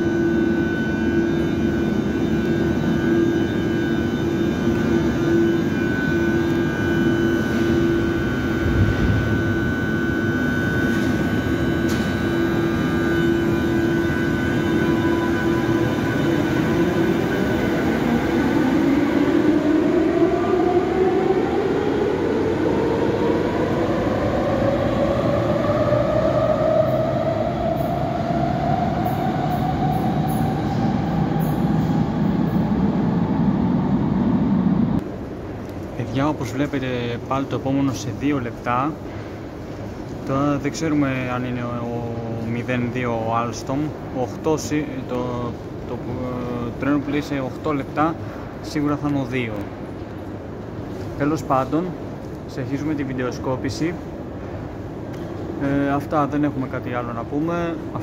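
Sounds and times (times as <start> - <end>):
train electrical hum: 0.0 - 58.0.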